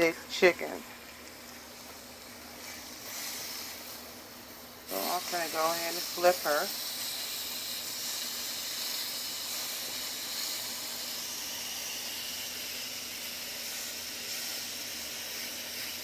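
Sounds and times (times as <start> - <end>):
meat sizzling in a grill pan: 0.0 - 16.0.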